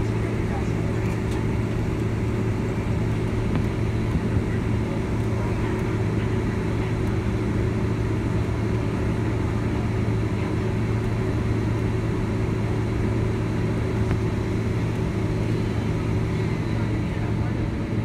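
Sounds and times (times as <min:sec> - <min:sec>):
airplane cabin engine drone: 0:00.0 - 0:18.0.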